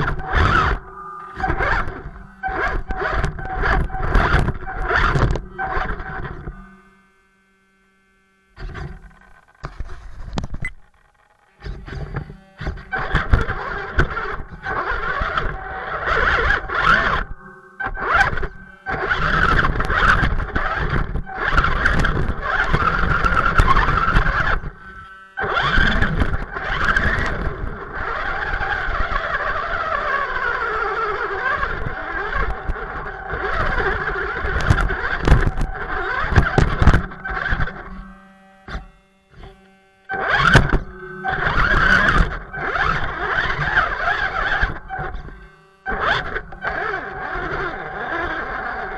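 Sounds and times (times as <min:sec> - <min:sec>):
electric motor and gears whining: 0:00.0 - 0:48.9.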